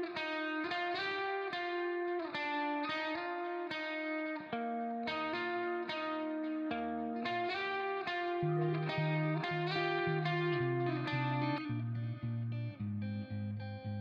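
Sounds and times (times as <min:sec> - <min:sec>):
plucked guitar melody: 0:00.0 - 0:14.0.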